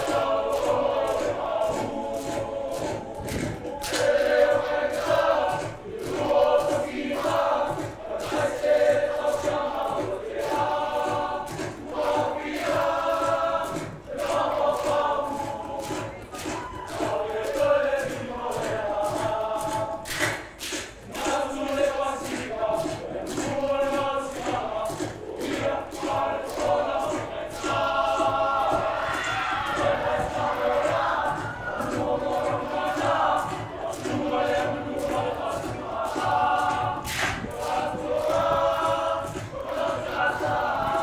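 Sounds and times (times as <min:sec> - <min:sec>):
men singing in chorus: 0:00.0 - 0:20.2, 0:21.0 - 0:41.0
rhythmic clapping: 0:00.0 - 0:41.0.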